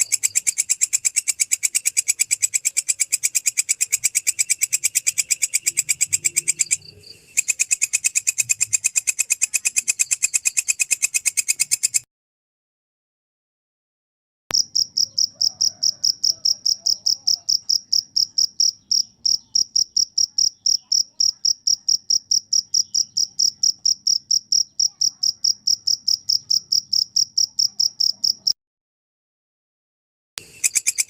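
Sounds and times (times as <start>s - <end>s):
cricket chirping: 0.0s - 12.0s, 14.5s - 28.6s, 30.4s - 31.0s.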